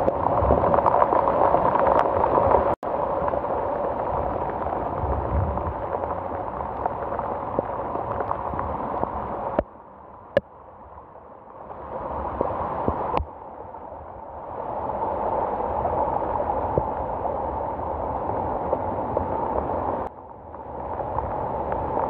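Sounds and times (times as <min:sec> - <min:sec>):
heavy rain falling: 0:00.0 - 0:09.6, 0:11.6 - 0:22.0.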